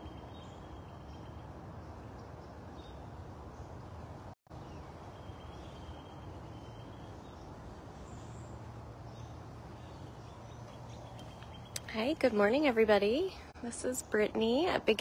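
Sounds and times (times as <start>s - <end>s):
faint chirping birds: 0.0s - 15.0s.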